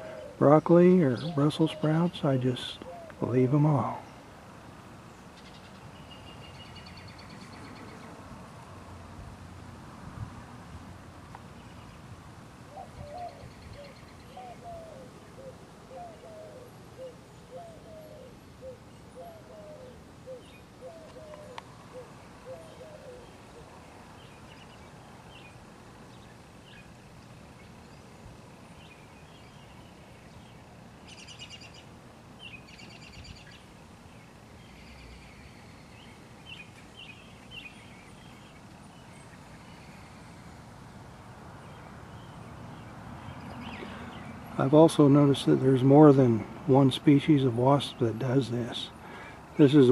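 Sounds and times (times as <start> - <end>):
birds calling: 0.0 - 8.3, 12.7 - 49.9
steady low background noise: 0.0 - 49.9.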